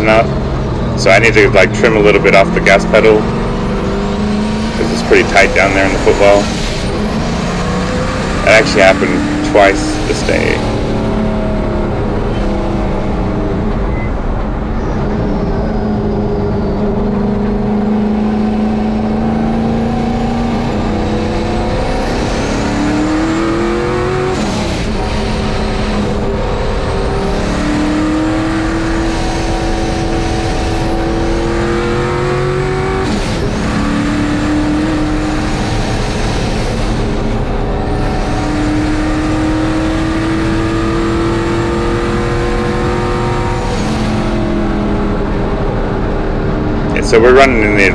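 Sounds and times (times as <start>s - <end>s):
engine accelerating hard: 0.0s - 47.9s.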